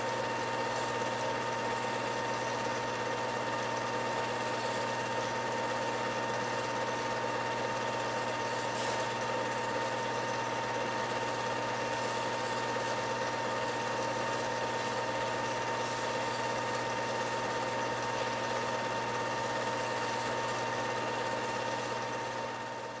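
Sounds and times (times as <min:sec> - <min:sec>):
film projector whirring: 0:00.0 - 0:23.0.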